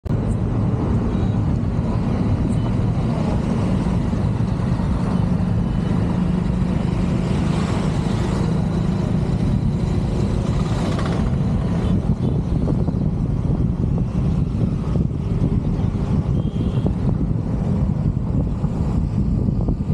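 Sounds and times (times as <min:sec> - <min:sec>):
car tyre and wind rumble: 0:00.1 - 0:19.9.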